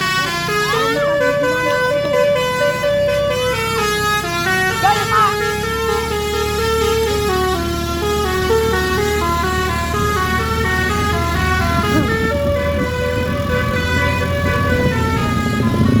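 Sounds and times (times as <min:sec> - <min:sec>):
bus engine running: 0:00.0 - 0:16.0
bus musical horn tune: 0:00.0 - 0:16.0.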